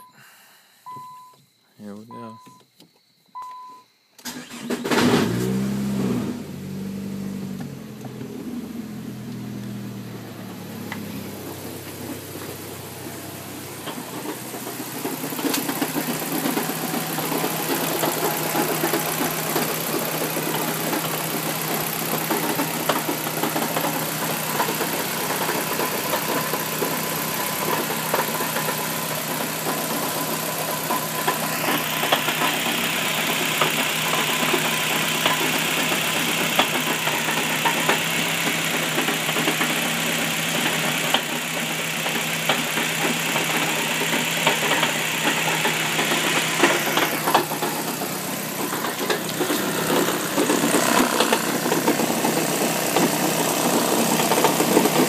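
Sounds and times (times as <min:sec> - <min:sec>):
car engine starting and idling: 0:03.4 - 0:55.0
engine knocking rattle: 0:08.8 - 0:55.0.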